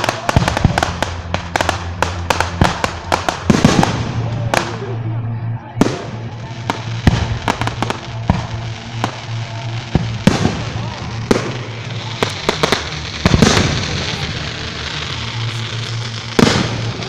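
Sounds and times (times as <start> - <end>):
fireworks banging: 0.0 - 5.2, 5.8 - 17.0.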